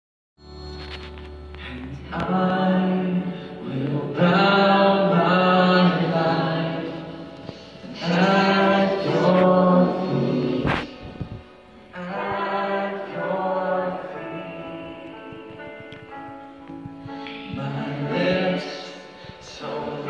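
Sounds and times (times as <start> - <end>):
guitars and piano: 0.4 - 20.0
voices singing held notes: 1.5 - 20.0.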